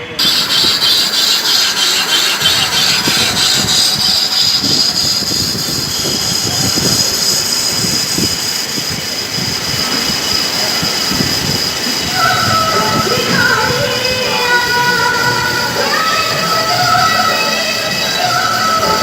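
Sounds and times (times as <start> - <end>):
machine whining and rumbling: 0.0 - 19.0.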